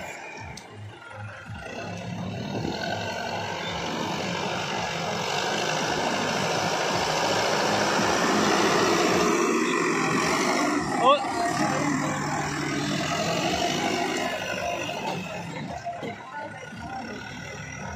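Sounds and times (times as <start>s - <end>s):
diesel engine running under load: 0.0s - 17.9s.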